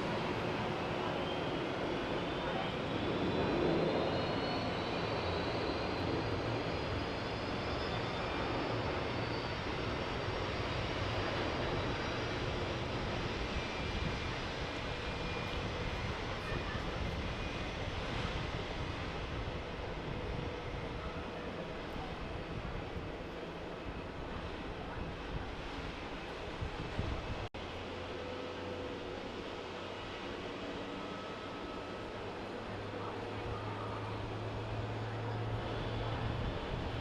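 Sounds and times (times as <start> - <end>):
jet engines rushing and whining: 0.0 - 37.0.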